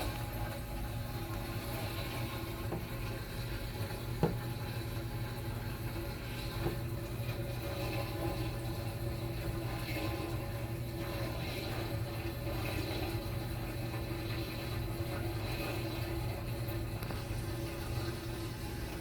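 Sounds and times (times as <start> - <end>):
washing machine hum: 0.0 - 19.0
water moving inside: 0.0 - 19.0.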